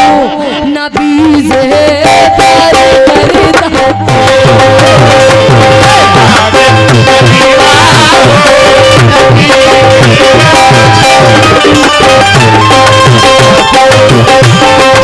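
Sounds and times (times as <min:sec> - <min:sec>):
harmonium chords: 0:00.0 - 0:15.0
tabla beating a rhythm: 0:00.0 - 0:15.0.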